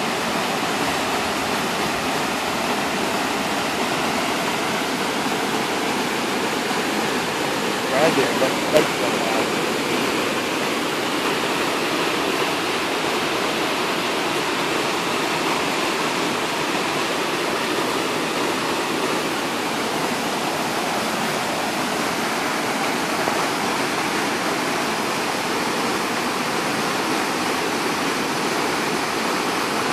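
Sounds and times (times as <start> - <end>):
floodwater rushing: 0.0 - 29.9.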